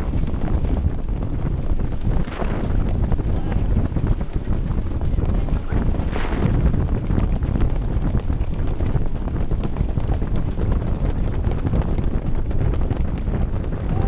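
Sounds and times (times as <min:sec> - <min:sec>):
horse hooves trotting on dirt: 0:00.0 - 0:14.0
wind rumble on microphone: 0:00.0 - 0:14.0.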